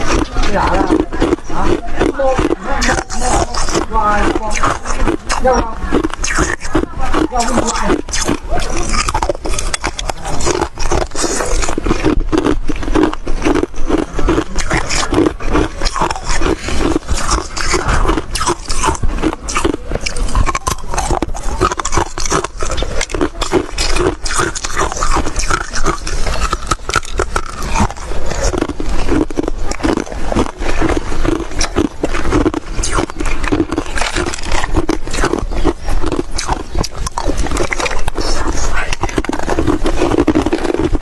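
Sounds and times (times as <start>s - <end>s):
crunching and chewing frost: 0.0s - 41.0s.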